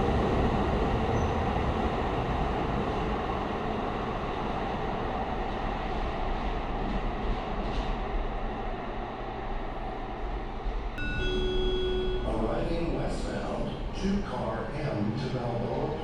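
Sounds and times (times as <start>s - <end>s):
light rail train rumbling: 0.0s - 16.0s.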